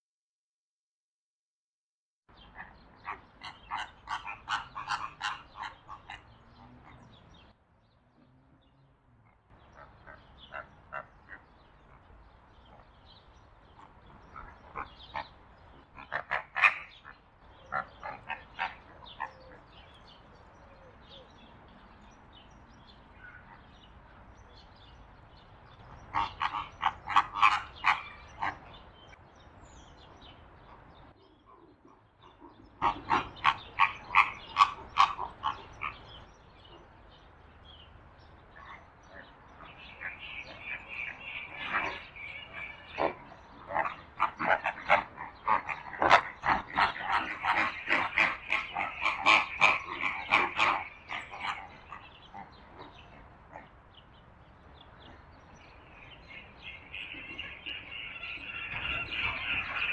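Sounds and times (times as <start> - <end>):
flamingos honking: 2.4 - 29.2, 32.8 - 59.9.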